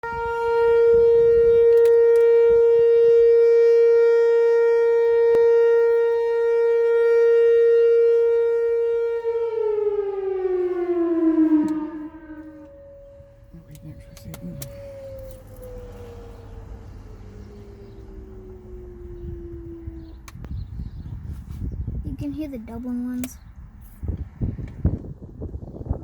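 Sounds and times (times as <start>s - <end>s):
electronic warning siren: 0.0s - 21.1s.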